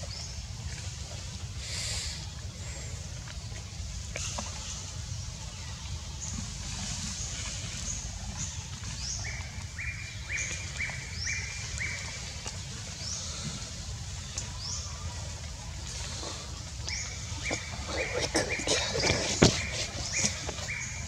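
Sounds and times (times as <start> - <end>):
birds chirping: 1.6 - 21.0.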